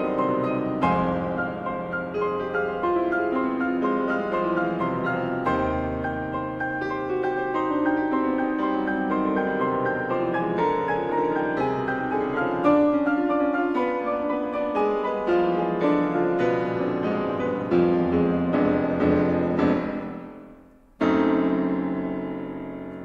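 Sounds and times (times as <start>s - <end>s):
solo piano classical music: 0.0s - 23.0s.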